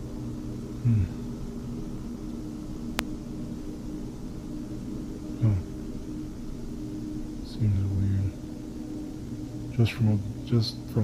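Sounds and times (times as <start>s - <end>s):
faint hiss: 0.0s - 11.0s
low droning hum: 0.0s - 11.0s.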